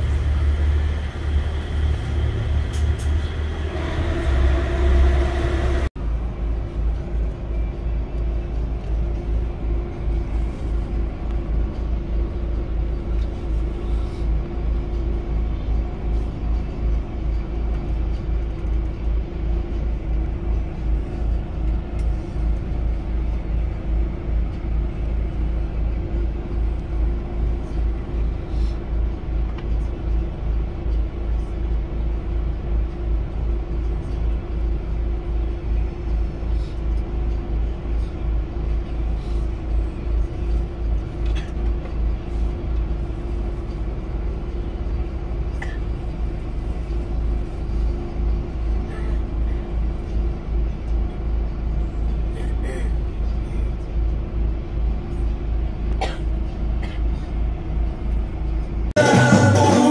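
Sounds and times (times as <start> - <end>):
constant hum: 0.0 - 59.9
vehicle rumbling: 0.0 - 59.9.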